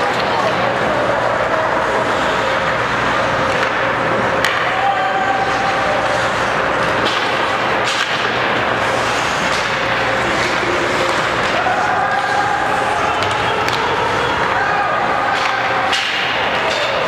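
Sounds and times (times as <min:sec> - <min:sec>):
skates on ice: 0:00.0 - 0:17.0.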